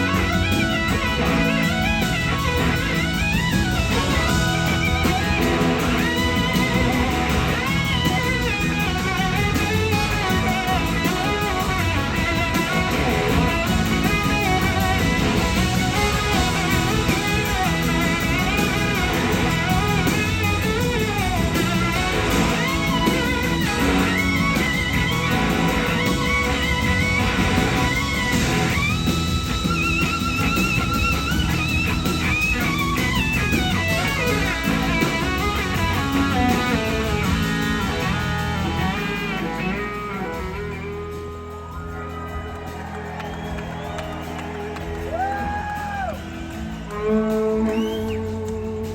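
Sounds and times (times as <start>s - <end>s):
bass guitar: 0.0s - 48.9s
drums: 0.0s - 48.9s.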